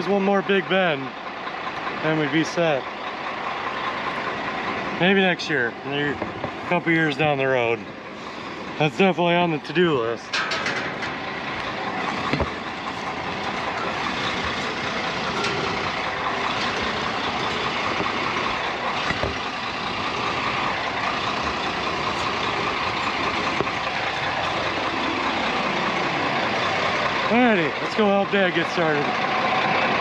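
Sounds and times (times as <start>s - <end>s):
road noise: 0.0s - 30.0s
truck engine running: 0.0s - 30.0s.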